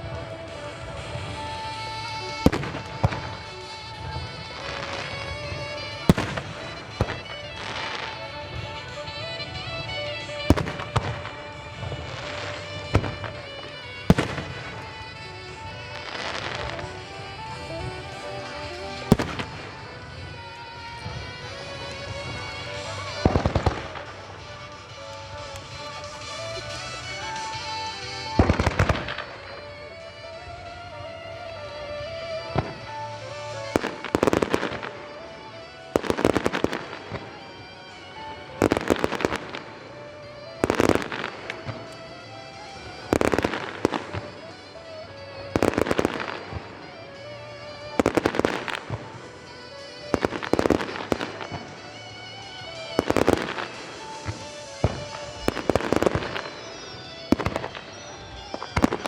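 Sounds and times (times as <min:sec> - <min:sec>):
firework shells bursting: 0:00.0 - 0:59.0
music playing: 0:00.0 - 0:59.0.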